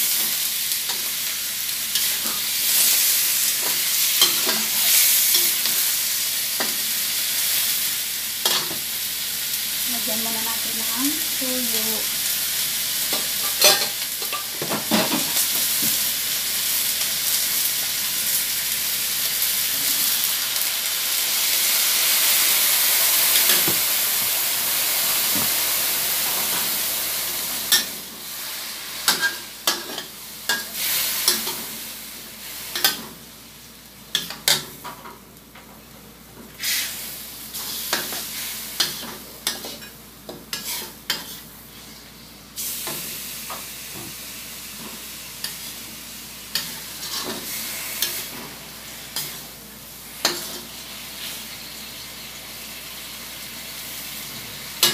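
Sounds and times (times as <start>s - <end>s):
chicken sizzling in a wok: 0.0s - 54.9s.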